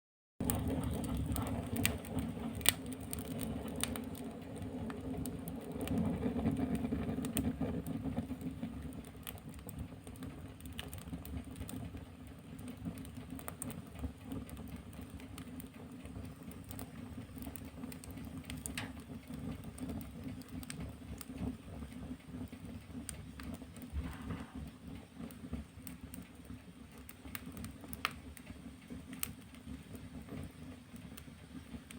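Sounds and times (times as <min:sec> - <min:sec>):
fire crackling and popping: 0:00.4 - 0:31.9
fire rumbling: 0:00.4 - 0:31.9.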